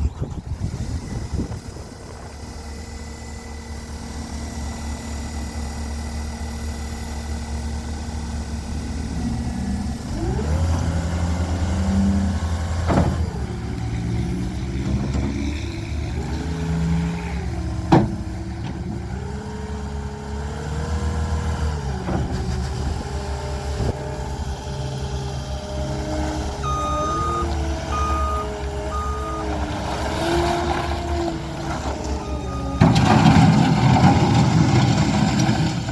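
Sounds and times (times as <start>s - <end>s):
diesel engine revving: 0.0s - 35.9s.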